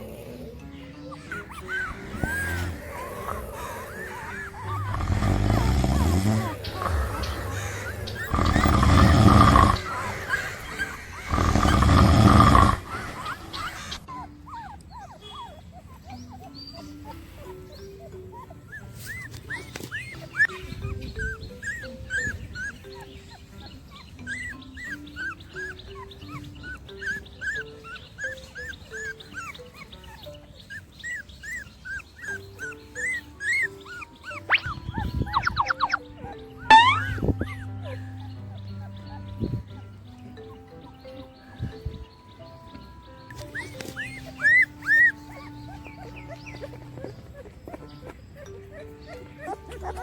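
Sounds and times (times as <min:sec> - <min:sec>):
puppies whimpering: 0:00.0 - 0:50.0
slow melodic background music: 0:00.0 - 0:50.0.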